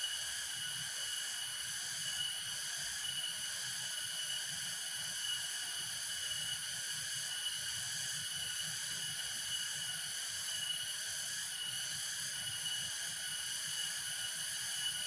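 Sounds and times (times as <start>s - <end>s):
insects chorus shrill drone: 0.0s - 15.0s.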